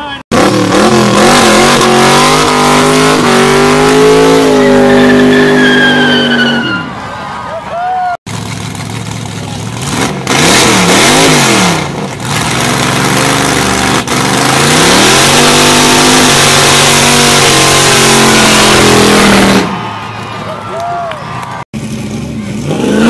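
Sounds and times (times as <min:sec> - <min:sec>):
car engine revving: 0:00.3 - 0:06.9, 0:08.3 - 0:20.0, 0:21.8 - 0:23.0.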